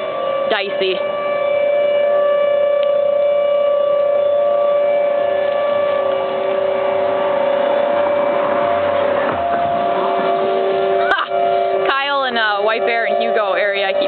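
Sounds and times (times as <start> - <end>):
warning sirens wailing: 0.0 - 14.0.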